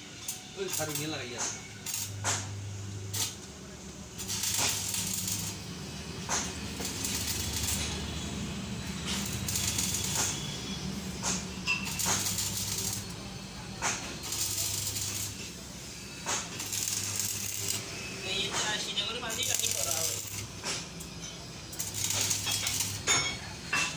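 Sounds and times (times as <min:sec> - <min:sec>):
arc welding crackling hiss: 0:00.0 - 0:23.9
welding machine hum: 0:00.0 - 0:23.9.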